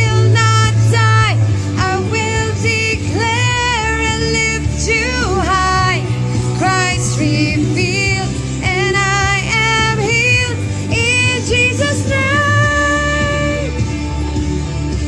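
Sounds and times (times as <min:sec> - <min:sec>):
woman singing: 0:00.0 - 0:13.9
low musical backing: 0:00.0 - 0:15.0.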